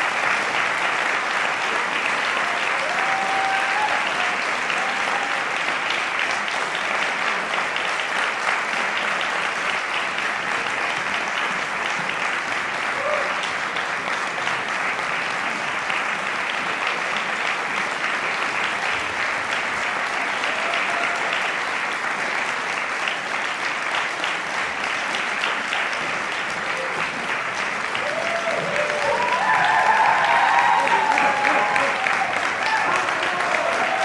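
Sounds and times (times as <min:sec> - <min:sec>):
audience applauding: 0:00.0 - 0:34.0.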